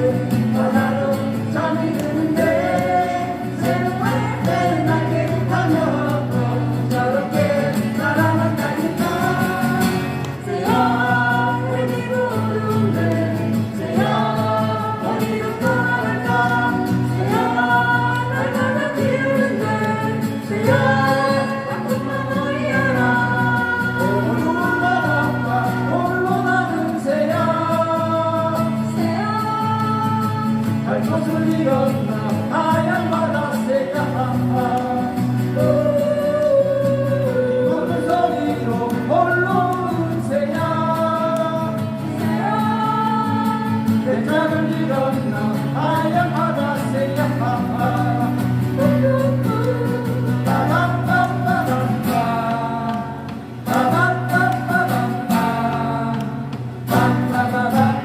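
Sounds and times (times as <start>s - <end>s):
acoustic guitar: 0.0s - 58.0s
people singing together: 0.0s - 58.0s.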